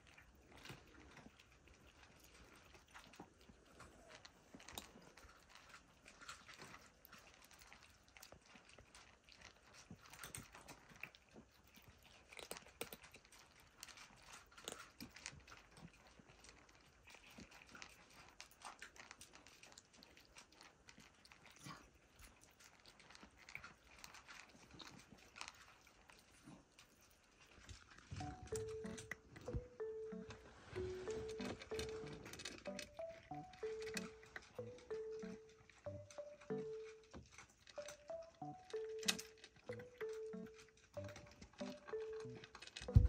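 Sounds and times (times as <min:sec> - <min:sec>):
cats chewing dry kibble: 0:00.0 - 0:43.0.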